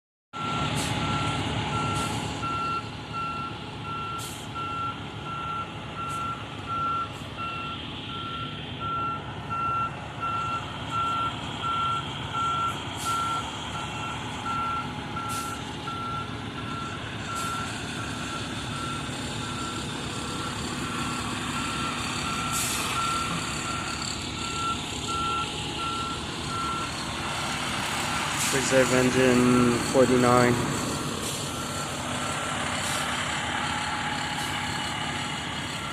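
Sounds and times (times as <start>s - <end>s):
reversing alarm beeping: 0.4s - 27.0s, 28.6s - 33.1s, 35.7s - 35.9s
truck engine running: 0.4s - 35.9s.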